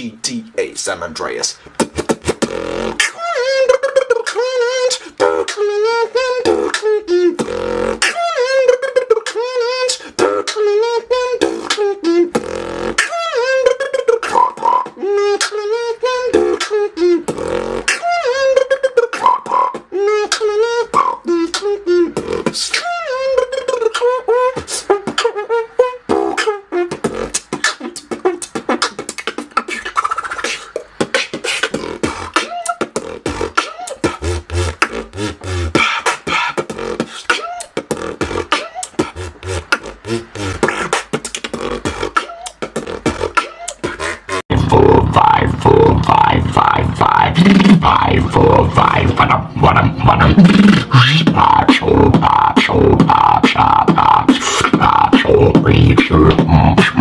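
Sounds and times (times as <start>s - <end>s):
person beatboxing: 0.0s - 57.0s.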